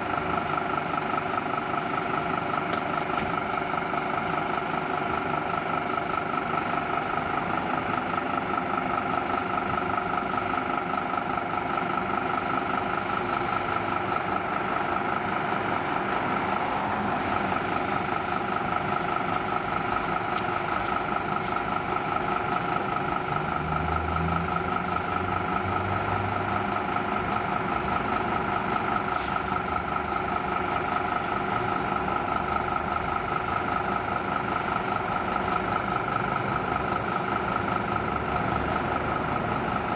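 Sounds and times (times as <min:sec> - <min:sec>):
fire engine idling: 0:00.0 - 0:39.9.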